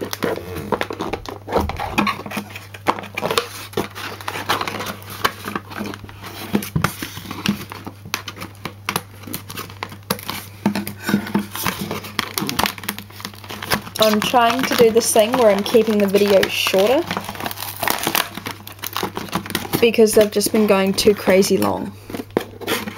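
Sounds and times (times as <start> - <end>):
cardboard scraping and crinkling: 0.0 - 22.9
packing tape being pulled: 0.0 - 22.9.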